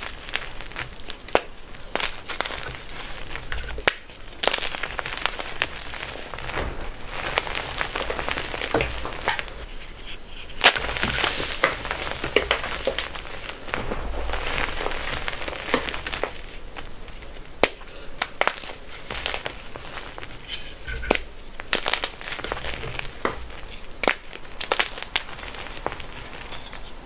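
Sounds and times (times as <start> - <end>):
chalk blocks crushed by hand: 0.0 - 9.9, 10.5 - 26.9
chalk cracking: 0.0 - 27.0.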